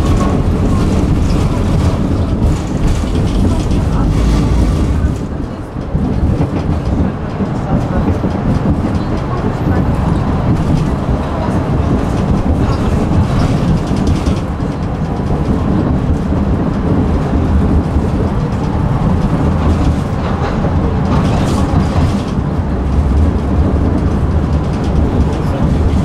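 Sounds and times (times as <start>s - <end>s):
rattling clatter: 0.0s - 26.0s
tram rumbling on rails: 0.0s - 26.0s.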